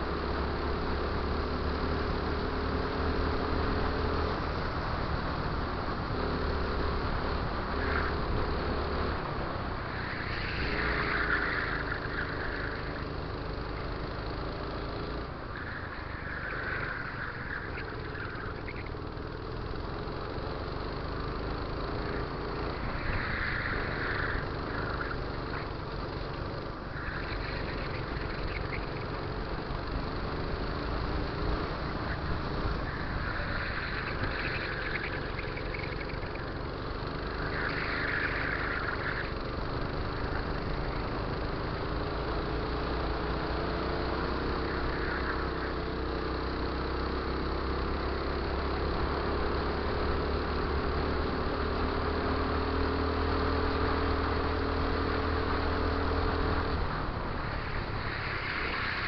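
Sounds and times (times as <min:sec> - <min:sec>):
go-kart engine racing: 0:00.0 - 0:59.0.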